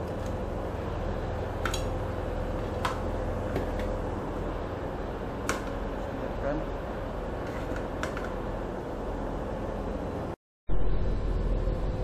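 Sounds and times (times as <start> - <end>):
ship engine drone: 0.0 - 12.0.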